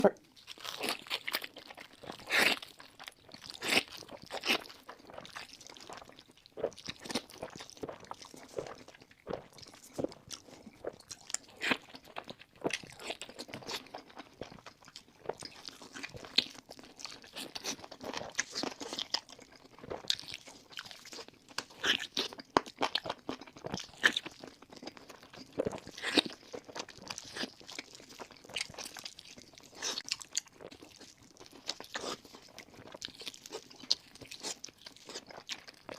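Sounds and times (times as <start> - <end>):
person chewing crunchy food: 0.0 - 35.9.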